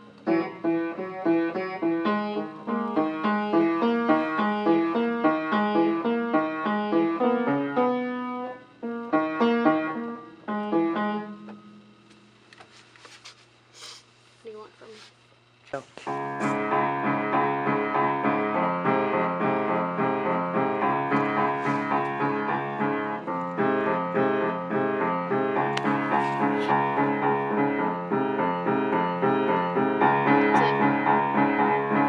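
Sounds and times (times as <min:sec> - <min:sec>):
piano keyboard tune: 0:00.0 - 0:12.1, 0:16.1 - 0:32.0.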